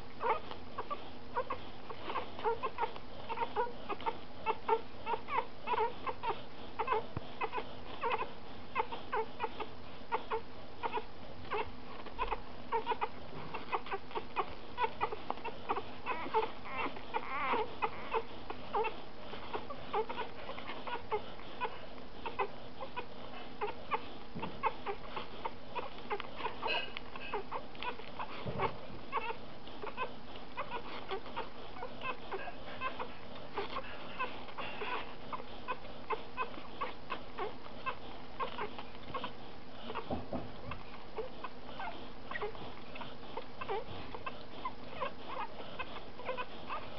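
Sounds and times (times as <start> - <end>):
puppies squeaking and whimpering: 0.0 - 46.9.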